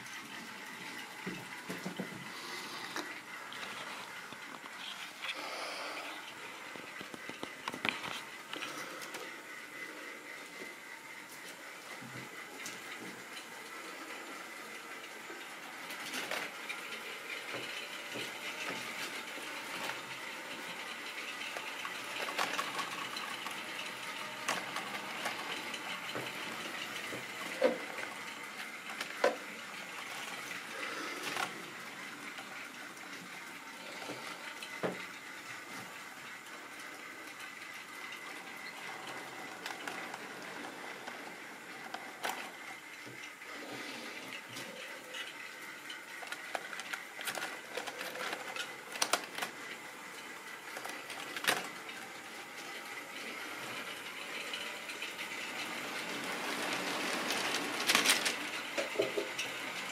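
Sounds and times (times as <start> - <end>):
wheels clicking over rail joints: 0.0 - 5.3, 6.0 - 59.9
model train wheels rattling: 0.0 - 59.9
thin steady whine: 0.0 - 59.9.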